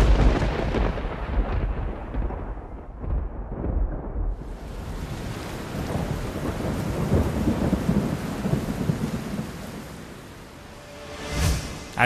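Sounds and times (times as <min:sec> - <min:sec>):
heavy rain: 0:00.0 - 0:03.6, 0:04.3 - 0:12.0
thunder rumbling: 0:00.0 - 0:10.6.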